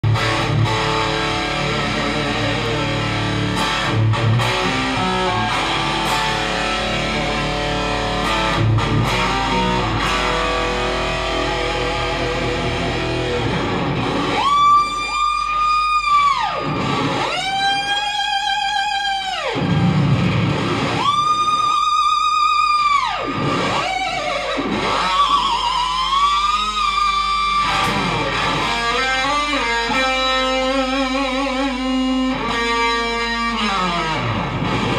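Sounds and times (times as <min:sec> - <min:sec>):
electric guitar playing: 0:00.0 - 0:34.9
guitar pitch glides with wobble: 0:00.0 - 0:34.9.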